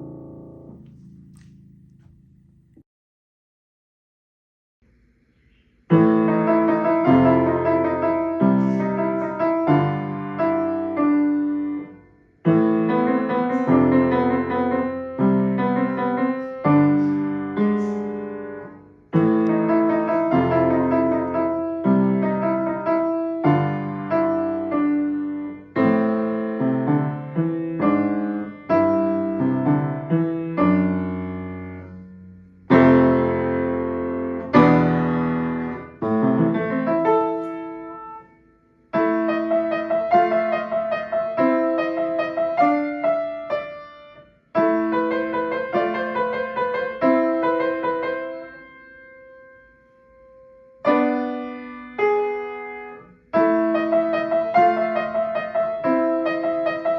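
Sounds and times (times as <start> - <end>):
solo piano music: 0.0 - 2.8, 5.9 - 56.9.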